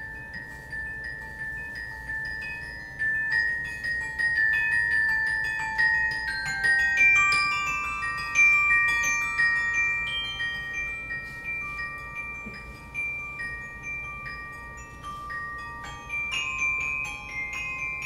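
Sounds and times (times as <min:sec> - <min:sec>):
tuned mallet percussion notes: 0:00.0 - 0:18.0.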